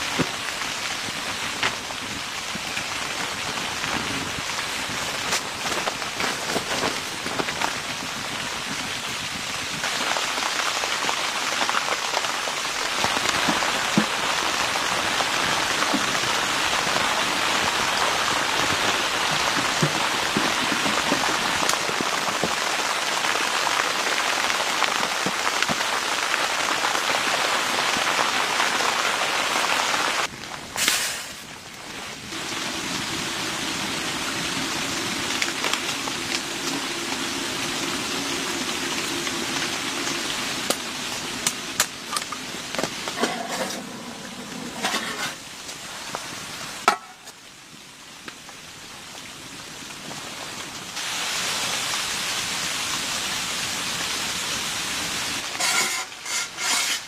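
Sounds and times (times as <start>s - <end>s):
rain pattering hiss: 0.0s - 57.0s.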